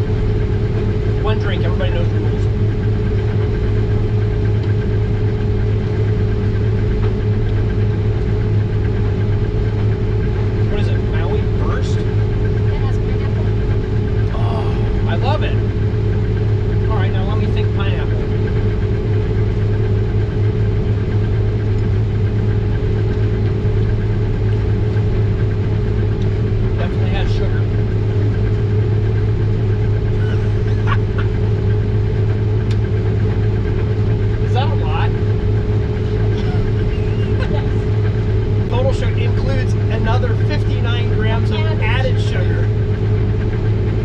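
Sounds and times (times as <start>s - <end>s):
combine harvester drone: 0.0s - 44.0s.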